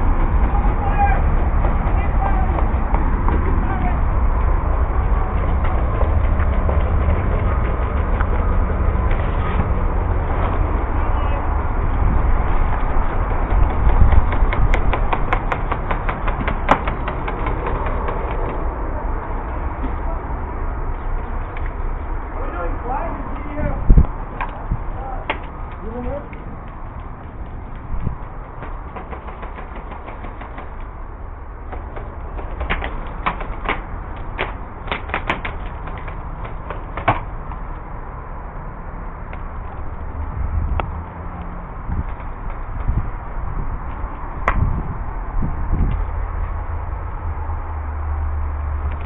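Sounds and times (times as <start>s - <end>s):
steady low rumble: 0.0s - 49.0s.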